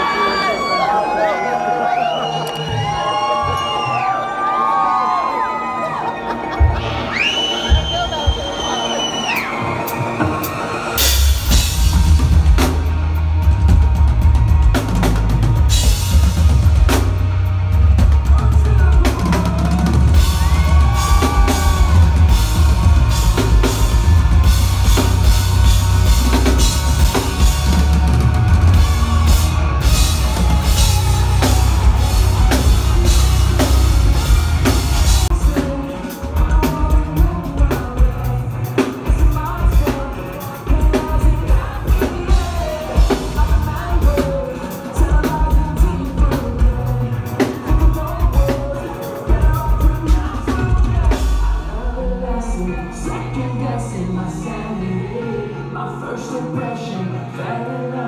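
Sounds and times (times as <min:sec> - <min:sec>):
rock band playing live: 0:00.0 - 0:57.8.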